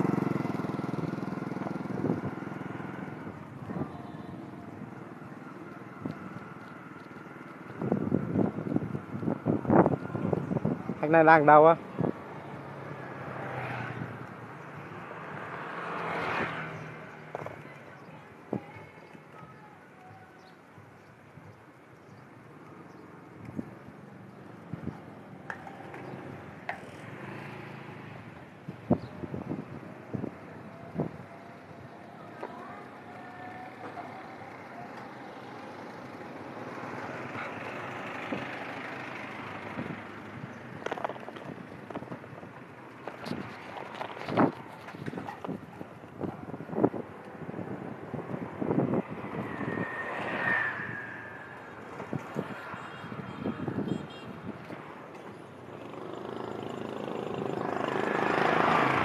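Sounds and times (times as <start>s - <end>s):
steady low road hum: 0.0s - 59.0s
street noise: 0.0s - 59.0s
vehicles passing by: 0.0s - 59.0s.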